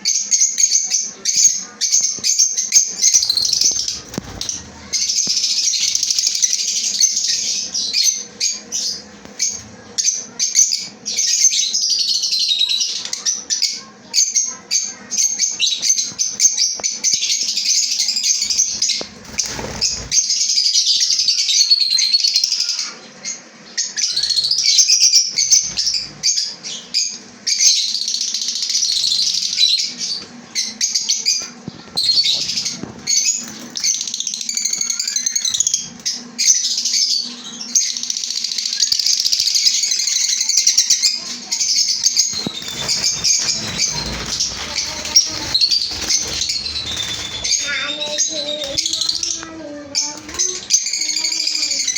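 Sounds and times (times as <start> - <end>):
lovebirds chattering: 0.0 - 51.9.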